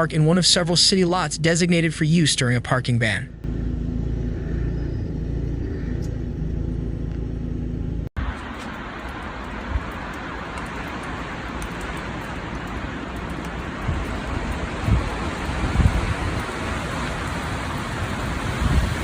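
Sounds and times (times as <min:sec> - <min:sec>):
low engine rumble: 0:01.1 - 0:19.0.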